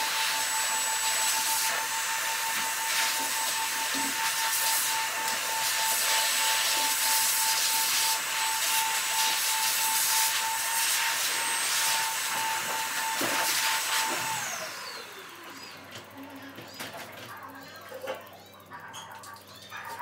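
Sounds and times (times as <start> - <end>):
electric blower motor whining: 0.0 - 17.5.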